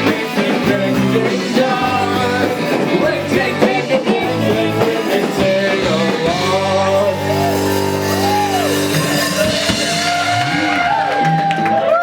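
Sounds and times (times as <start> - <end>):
bass guitar: 0.0 - 12.0
drums: 0.0 - 12.0
electric guitars: 0.0 - 12.0.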